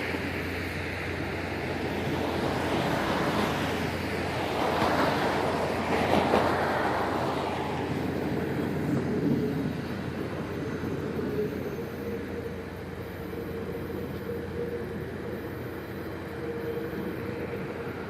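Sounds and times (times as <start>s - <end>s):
faint steady hum: 0.0s - 18.0s
train rumbling on track: 0.0s - 18.0s.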